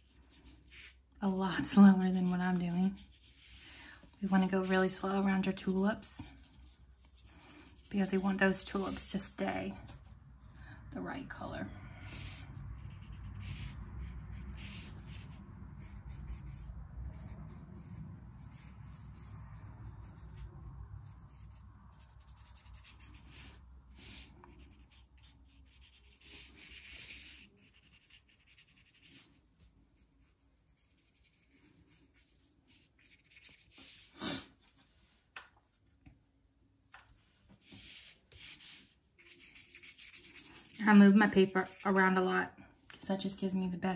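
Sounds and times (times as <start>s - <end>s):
paintbrush scratching on paper: 0.0s - 9.4s, 11.8s - 34.1s, 37.6s - 42.6s.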